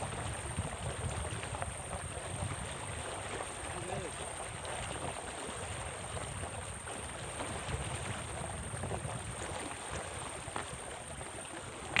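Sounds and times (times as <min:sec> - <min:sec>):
small ticks and splashes: 0:00.0 - 0:12.0
water lapping and trickling: 0:00.0 - 0:12.0
wind rumble on microphone: 0:00.0 - 0:12.0.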